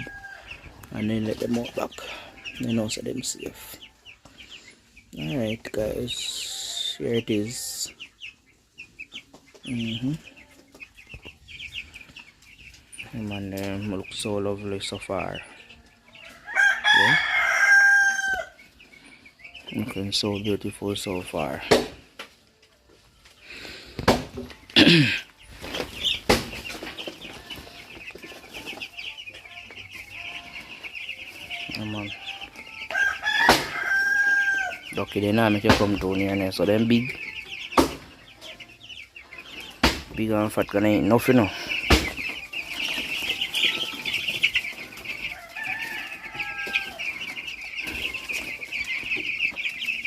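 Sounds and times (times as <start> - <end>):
baby chicks peeping: 0.0 - 50.0.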